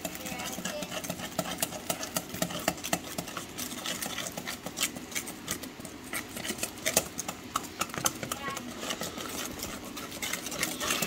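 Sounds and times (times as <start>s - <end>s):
whisk beating in metal bowl: 0.0s - 11.0s.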